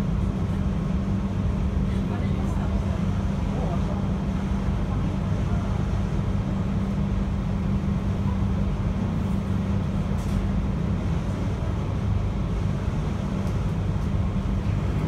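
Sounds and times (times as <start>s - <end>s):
train interior rumble and hum: 0.0s - 15.0s.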